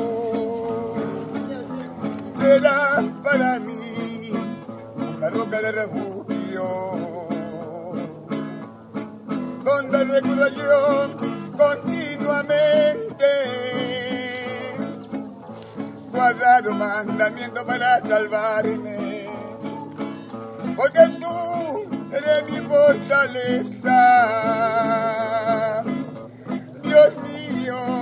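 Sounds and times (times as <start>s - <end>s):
acoustic guitar chords: 0.0s - 28.0s
man singing: 0.0s - 28.0s.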